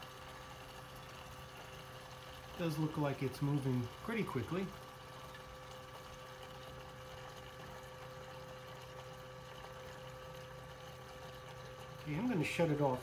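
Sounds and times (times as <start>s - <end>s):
fuel flowing into tank: 0.0s - 13.0s
fuel pump humming: 0.0s - 13.0s.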